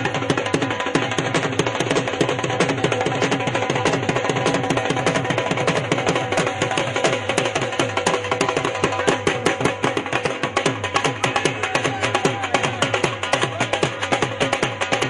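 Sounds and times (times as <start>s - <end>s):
rapid hand-drum strokes: 0.0s - 15.0s.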